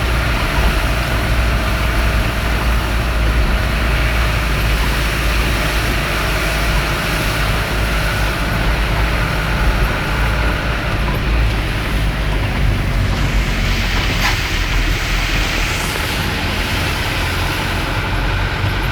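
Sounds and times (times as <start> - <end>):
heavy rain hissing: 0.0 - 18.9
moving vehicle rumble: 0.0 - 18.9.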